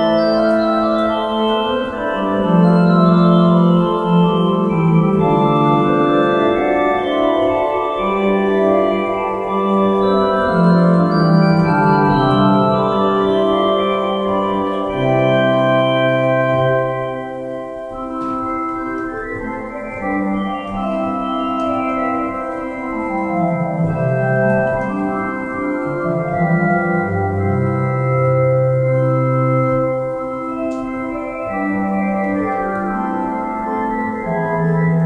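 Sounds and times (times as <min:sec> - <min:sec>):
organ chords: 0:00.0 - 0:35.0.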